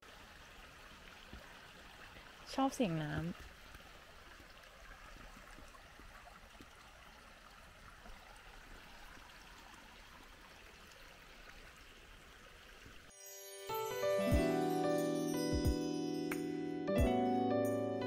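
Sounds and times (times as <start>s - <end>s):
stream water running: 0.0s - 16.3s.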